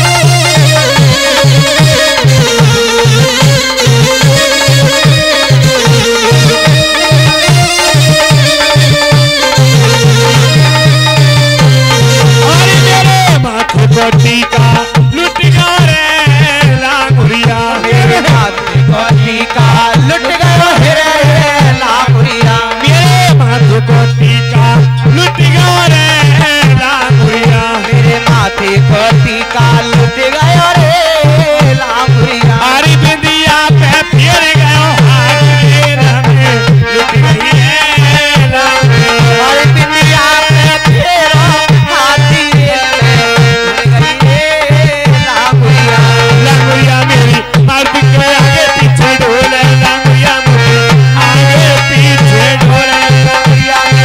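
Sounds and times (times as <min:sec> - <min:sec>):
dholak drum rhythm: 0:00.0 - 0:54.0
keyboard melody: 0:00.0 - 0:54.0
person singing: 0:00.0 - 0:54.0.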